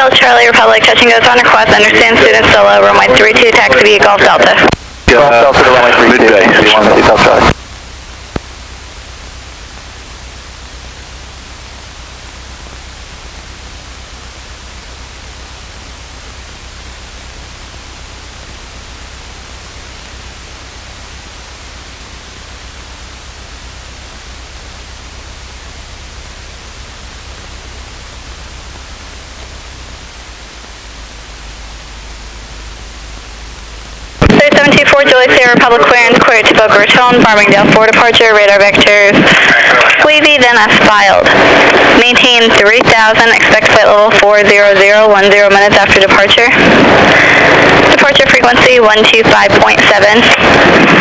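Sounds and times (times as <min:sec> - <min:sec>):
low steady hum: 0:00.0 - 0:51.0
radio static hiss: 0:00.0 - 0:51.0.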